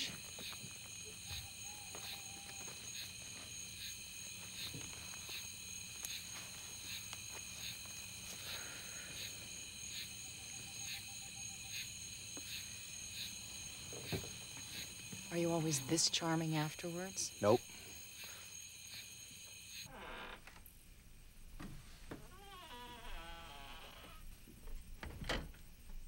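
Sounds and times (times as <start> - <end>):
crickets chirping: 0.0 - 21.5, 22.2 - 26.0.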